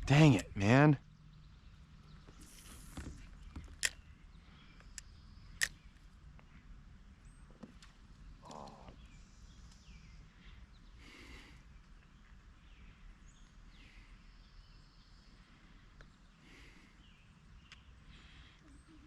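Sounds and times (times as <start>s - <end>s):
quiet outdoor ambience: 0.0s - 19.0s.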